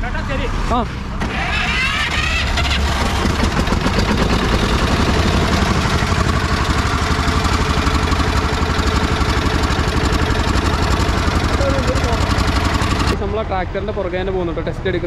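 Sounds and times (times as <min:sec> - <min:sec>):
tractor diesel engine idling: 0:01.2 - 0:14.6.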